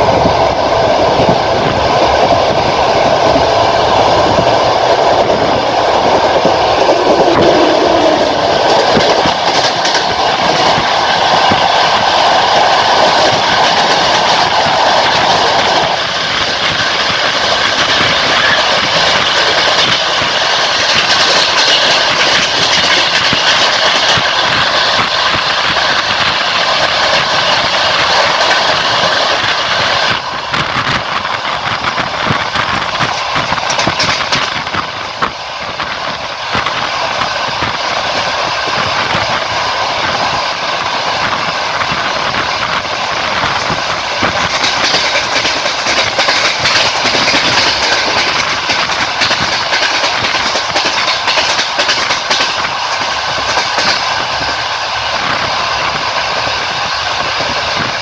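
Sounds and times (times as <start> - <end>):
steady rushing rail noise: 0.0 - 58.0
train wheels clattering over rail joints: 0.0 - 58.0.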